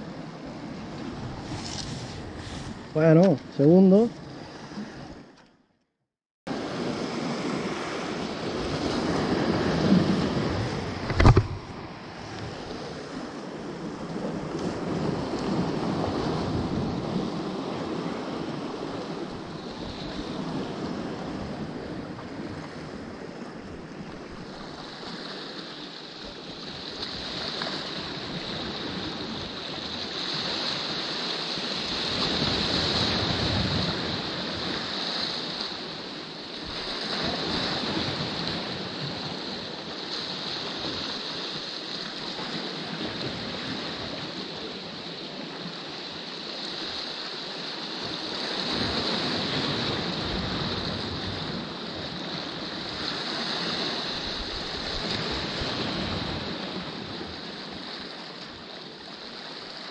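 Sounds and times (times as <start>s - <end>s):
sea waves washing against rocks: 6.5s - 25.9s, 26.7s - 59.9s.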